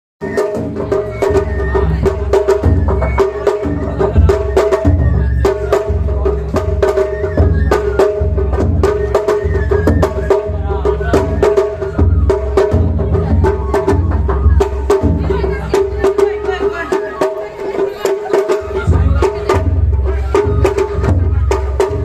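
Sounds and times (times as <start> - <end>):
drums beating with sharp clacks: 0.2 - 22.0.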